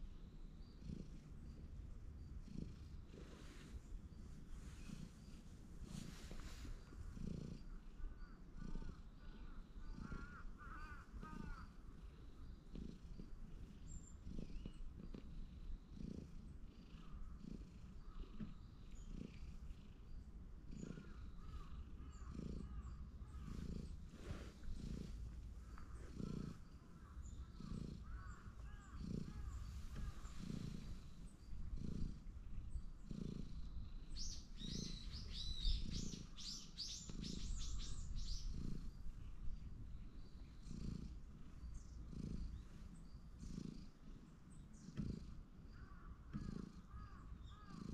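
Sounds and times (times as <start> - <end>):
cat purring: 0.0 - 47.9.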